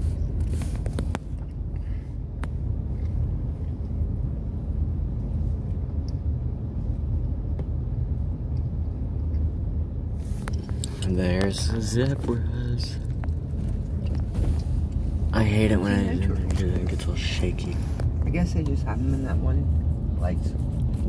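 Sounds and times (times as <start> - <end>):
car interior rumble: 0.0 - 21.0.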